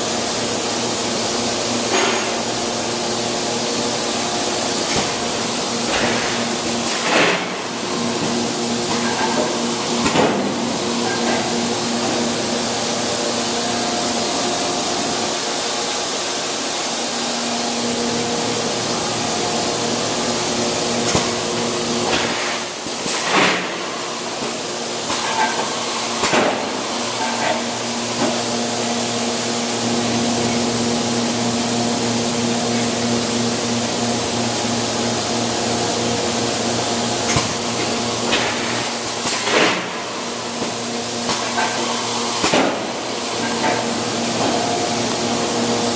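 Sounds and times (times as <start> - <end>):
machinery humming: 0.0 - 45.9.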